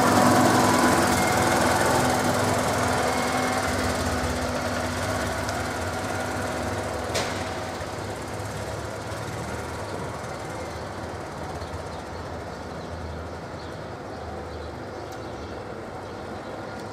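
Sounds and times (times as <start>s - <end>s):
vehicle engine chugging: 0.0s - 15.5s.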